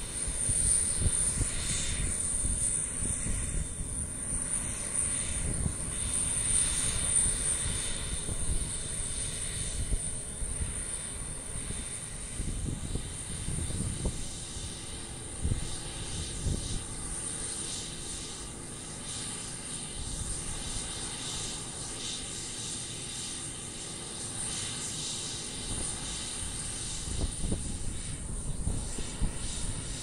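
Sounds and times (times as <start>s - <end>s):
jet engines whining: 0.0s - 30.0s.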